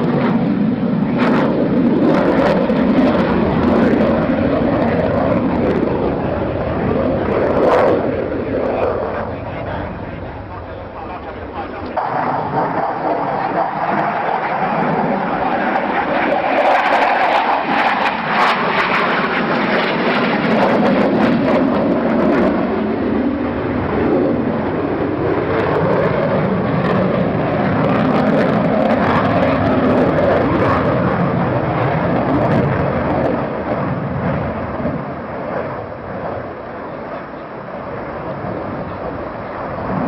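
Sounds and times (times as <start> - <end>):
aircraft engine flying past: 0.0 - 40.0.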